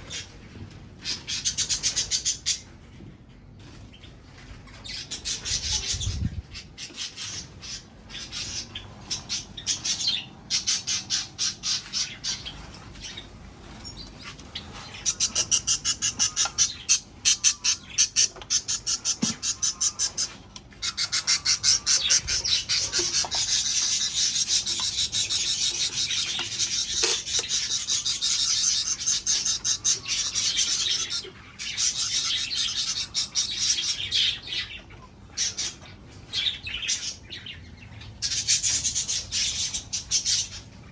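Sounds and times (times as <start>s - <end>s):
birds squawking and chattering: 0.0s - 40.9s.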